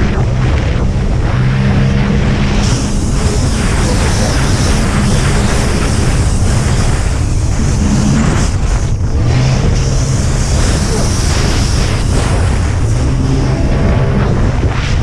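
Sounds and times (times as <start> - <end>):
jet ski engine running hard: 0.0 - 15.0
rushing water: 0.0 - 15.0
wind on microphone: 0.0 - 15.0.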